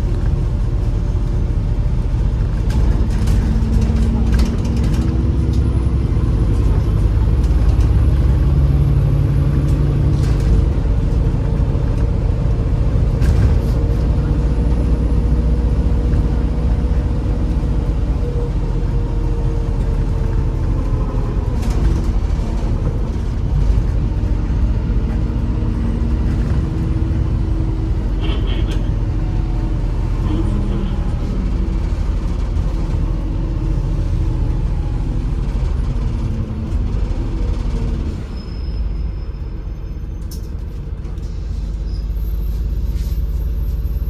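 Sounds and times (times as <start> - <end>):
bus engine drone: 0.0 - 44.0
road rumble: 0.0 - 44.0.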